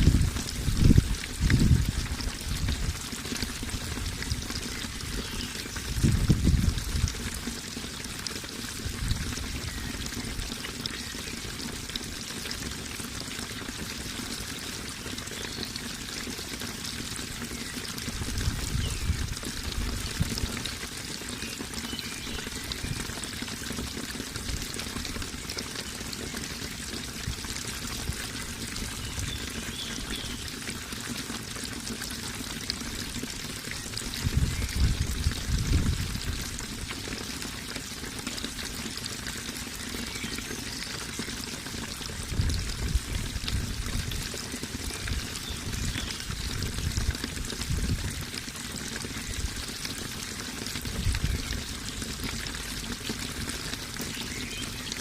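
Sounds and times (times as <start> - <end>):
deep water gush: 0.0 - 55.0
water pouring and trickling: 0.0 - 55.0.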